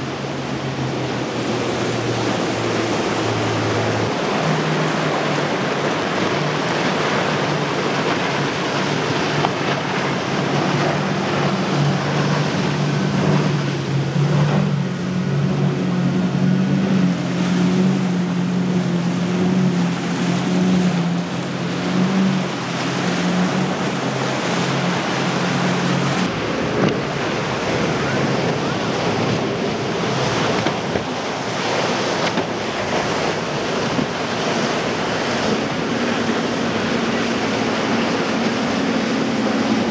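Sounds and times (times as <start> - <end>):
boat engine drone: 0.0 - 39.9
rush of wake and waves: 0.0 - 39.9
wind buffeting microphone: 0.0 - 39.9.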